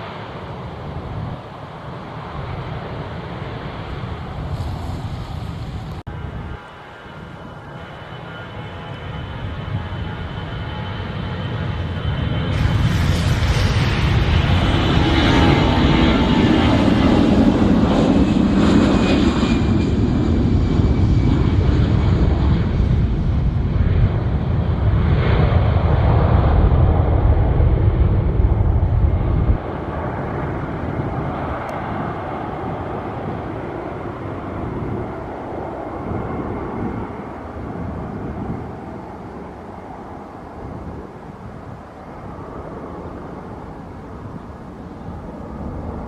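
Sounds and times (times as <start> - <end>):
jet airliner engines rumbling: 0.0 - 46.0
jet engine whine: 0.0 - 46.0.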